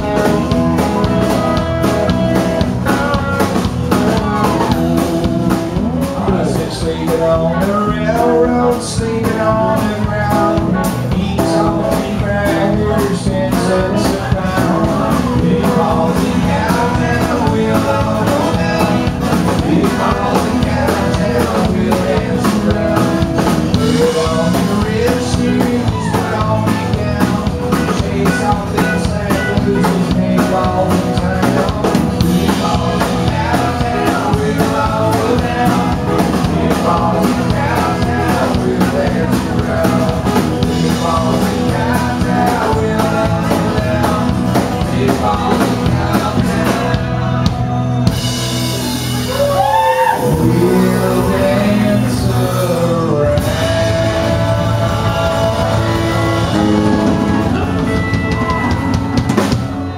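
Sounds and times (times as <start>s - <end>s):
country-rock band playing: 0.0s - 59.9s
person singing: 0.0s - 59.9s.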